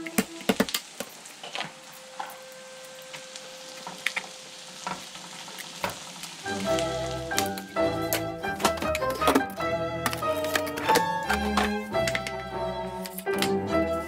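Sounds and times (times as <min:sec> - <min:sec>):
food sizzling in frying: 0:00.0 - 0:12.0.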